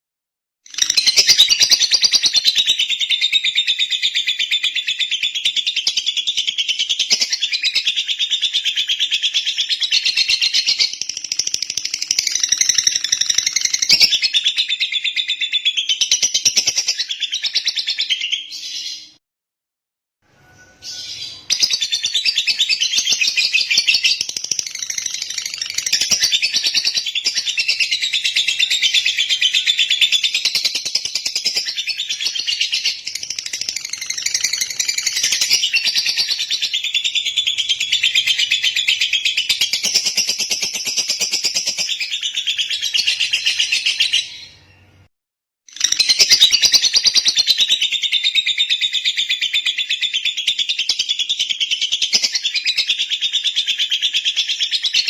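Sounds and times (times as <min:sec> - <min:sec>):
bird chirping and trilling: 0:00.7 - 0:19.2, 0:20.3 - 0:45.1, 0:45.7 - 0:55.0.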